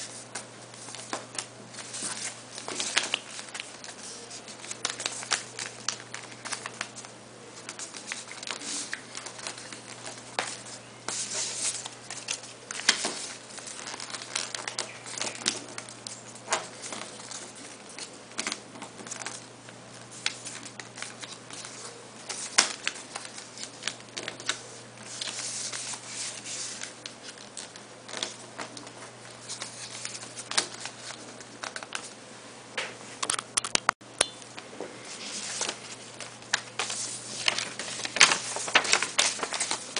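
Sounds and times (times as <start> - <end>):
paper rustling: 0.0 - 32.2, 35.0 - 39.9.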